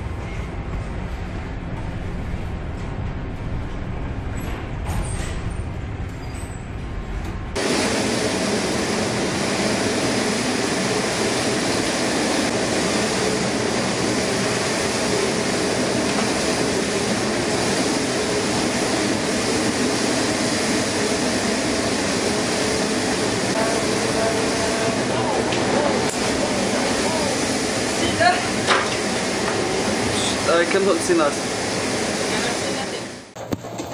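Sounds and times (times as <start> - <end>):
storm wind: 0.0 - 33.1.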